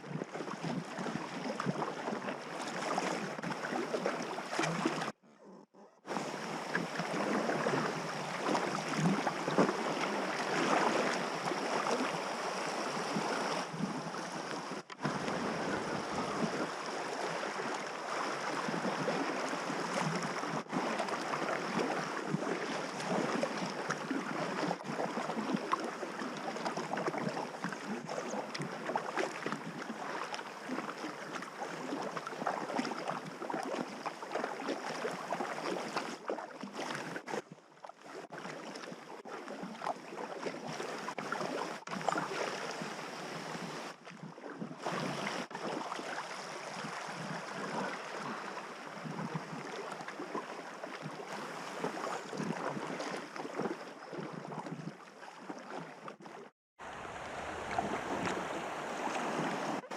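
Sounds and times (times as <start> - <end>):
river water rushing and splashing: 6.1 - 37.3, 40.2 - 44.0, 44.8 - 54.2, 56.4 - 59.9.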